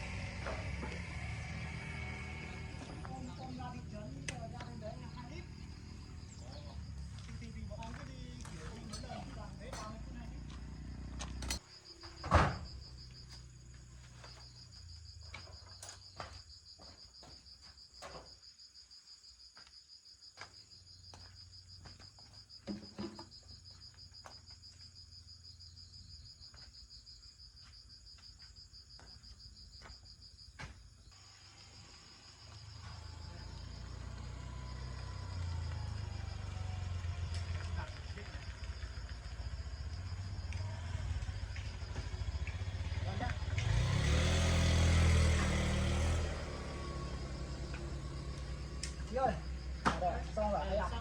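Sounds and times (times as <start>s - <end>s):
cricket chirping trill: 0.0s - 51.0s.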